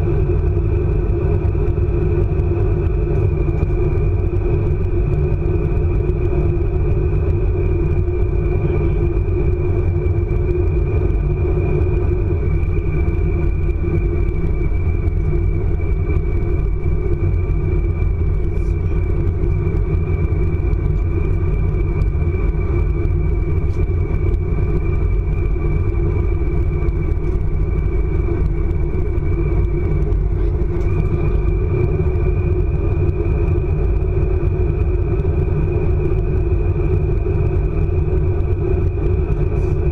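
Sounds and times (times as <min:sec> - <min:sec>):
high-speed train rumbling: 0:00.0 - 0:39.9
thin high train whine: 0:00.0 - 0:39.9.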